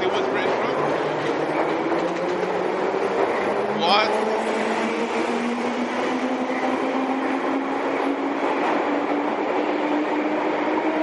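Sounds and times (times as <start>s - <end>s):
wheels rushing on track: 0.0s - 11.0s.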